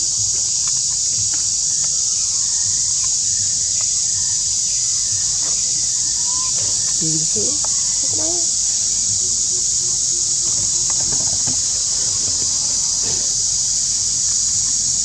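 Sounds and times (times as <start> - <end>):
insects droning: 0.0 - 15.0
faint ticks: 0.2 - 15.0.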